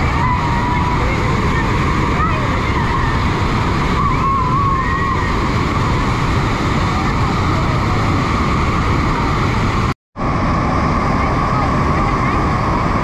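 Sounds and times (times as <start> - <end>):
waterfall rushing onto rocks: 0.0 - 13.0.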